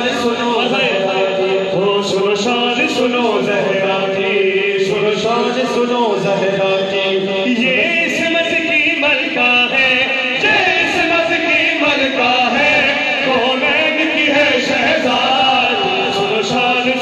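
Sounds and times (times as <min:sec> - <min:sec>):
men singing into microphones: 0:00.0 - 0:17.0.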